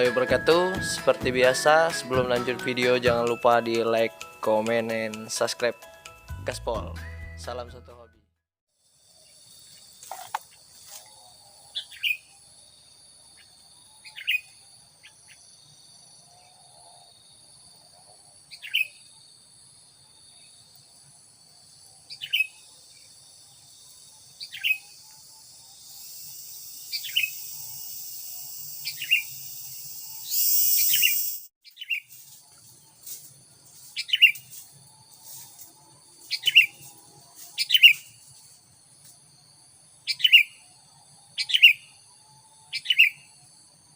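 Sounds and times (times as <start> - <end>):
high insect drone: 8.7 - 43.9.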